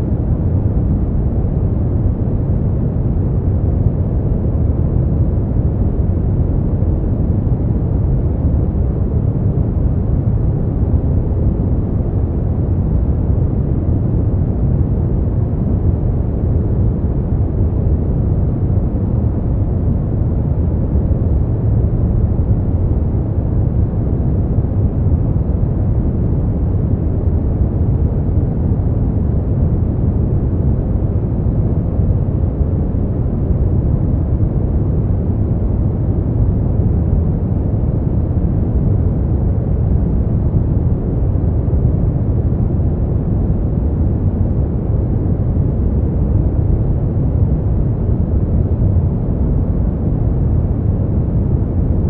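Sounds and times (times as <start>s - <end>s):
deep rushing brown noise: 0.0s - 52.0s.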